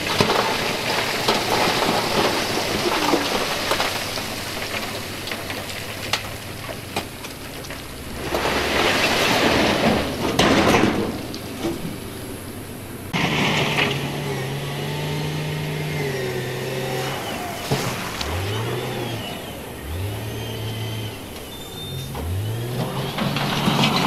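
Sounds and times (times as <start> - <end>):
diesel engine revving under load: 0.0 - 24.0.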